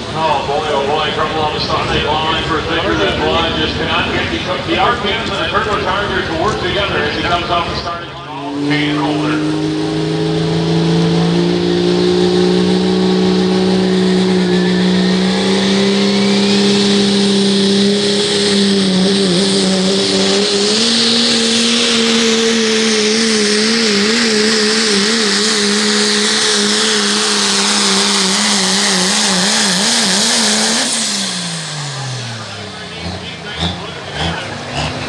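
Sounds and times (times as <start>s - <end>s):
diesel truck engine revving high: 0.0s - 35.0s.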